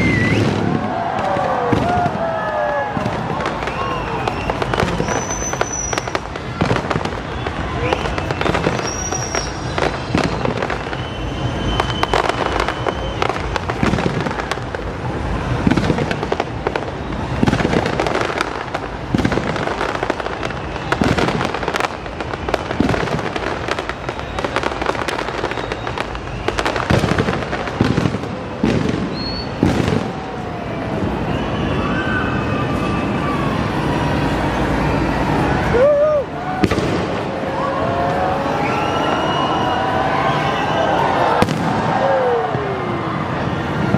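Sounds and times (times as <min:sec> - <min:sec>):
firework whistles: 0:00.0 - 0:43.9
fireworks bangs and crackling: 0:00.0 - 0:43.9.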